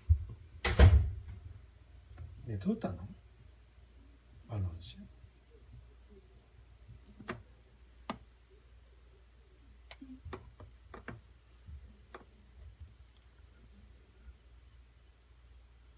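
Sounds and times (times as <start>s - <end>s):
faint low room hum: 0.0s - 15.9s.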